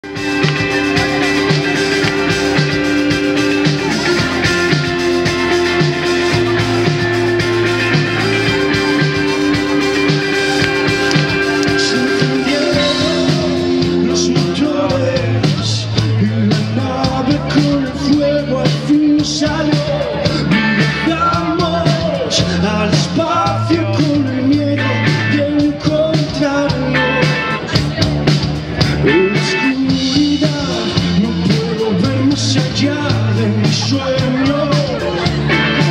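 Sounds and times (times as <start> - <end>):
man singing: 0.0 - 27.9, 28.9 - 35.9
live rock band playing: 0.0 - 35.9.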